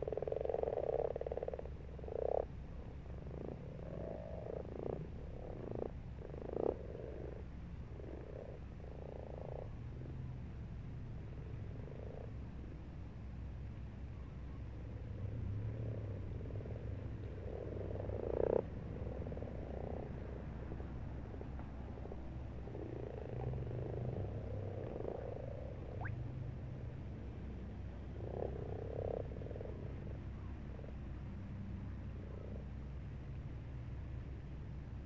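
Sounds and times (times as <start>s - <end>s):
frogs croaking: 0.0s - 10.4s, 11.2s - 12.8s, 14.0s - 33.3s.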